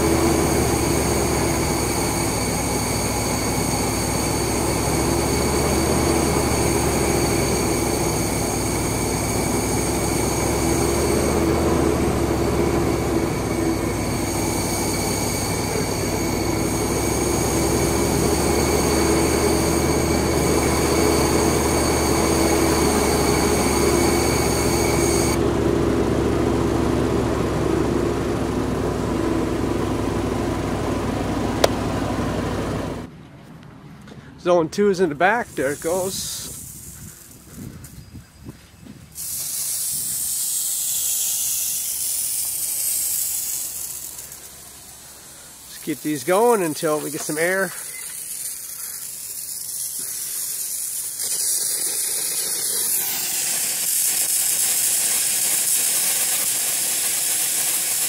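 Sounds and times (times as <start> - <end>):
high thin whistling tones: 0.0 - 25.4, 34.9 - 56.5
air compressor running: 0.0 - 33.1, 35.2 - 58.0.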